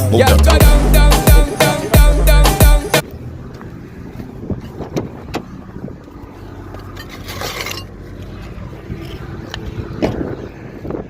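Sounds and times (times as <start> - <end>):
engine-like hum: 0.0 - 11.0.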